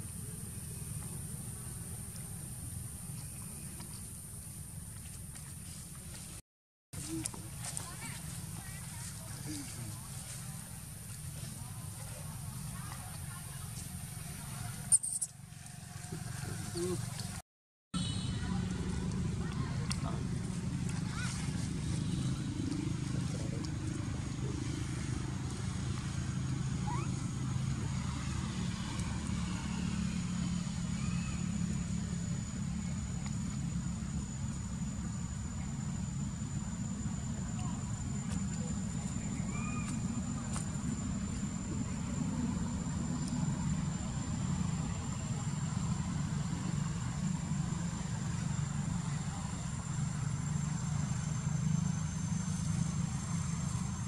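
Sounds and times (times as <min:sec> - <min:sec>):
low engine hum: 0:00.0 - 0:06.4, 0:07.0 - 0:17.4, 0:18.0 - 0:54.0.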